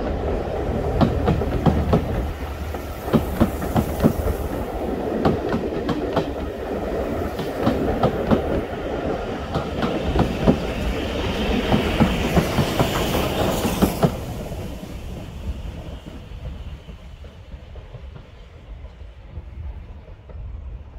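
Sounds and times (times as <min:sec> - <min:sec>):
steam hiss: 0:00.0 - 0:20.2
train wheels clickety-clack: 0:00.0 - 0:20.9.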